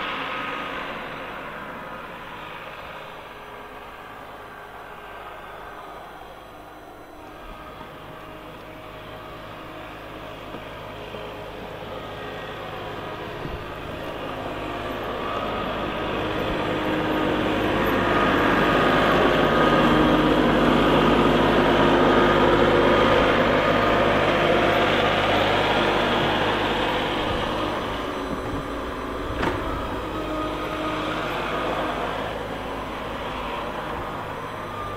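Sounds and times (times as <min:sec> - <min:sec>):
diesel engine approaching: 0:00.0 - 0:34.9.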